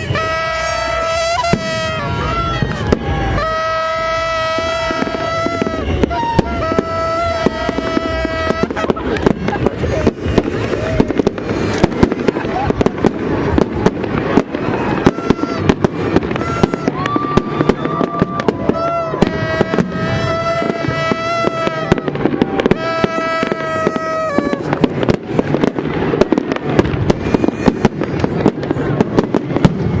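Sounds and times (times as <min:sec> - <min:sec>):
party horns buzzing: 0:00.0 - 0:25.1
fireworks bangs and crackles: 0:00.0 - 0:30.0.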